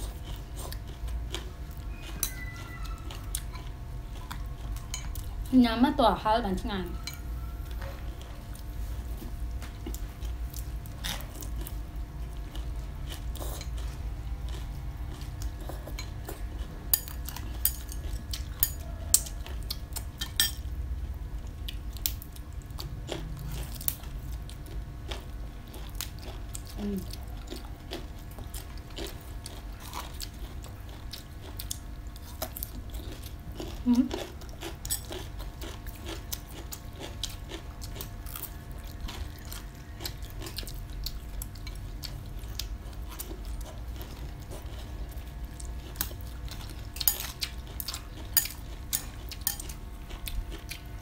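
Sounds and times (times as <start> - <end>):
people chewing crunchy vegetables: 0.0 - 5.6, 6.5 - 51.0
steady low hum: 0.0 - 51.0.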